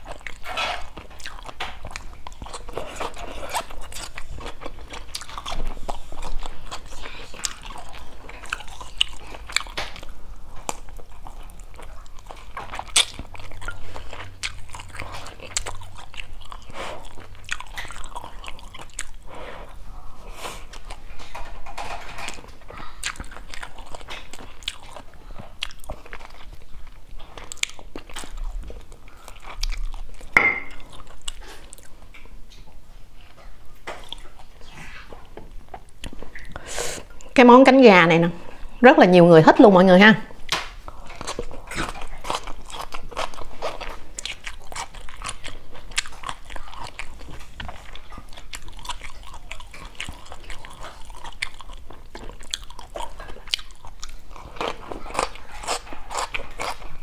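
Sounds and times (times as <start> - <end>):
person chewing and crunching food: 0.0 - 37.4, 40.3 - 57.0.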